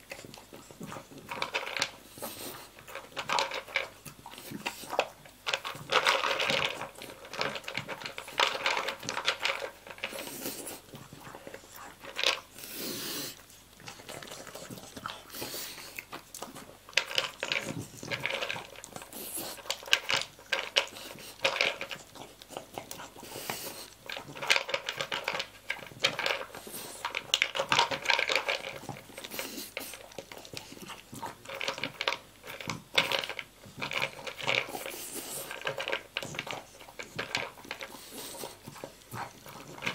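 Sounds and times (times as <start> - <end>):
dog crunching kibble: 0.0 - 39.9
kibble rattling against plastic bowl: 0.0 - 39.9.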